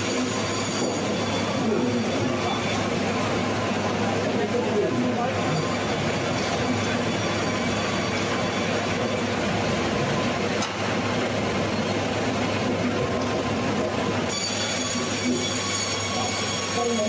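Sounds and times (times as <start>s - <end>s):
band saw machinery running: 0.0s - 17.0s.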